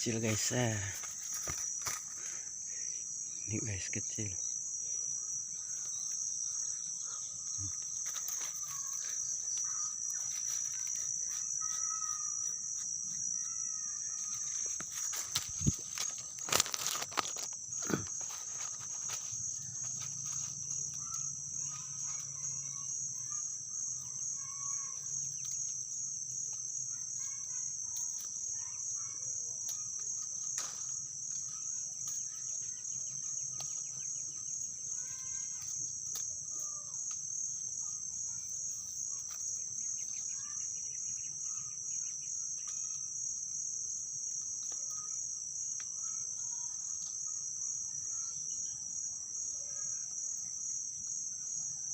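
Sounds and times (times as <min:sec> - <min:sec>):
insect chorus drone: 0:00.0 - 0:51.9.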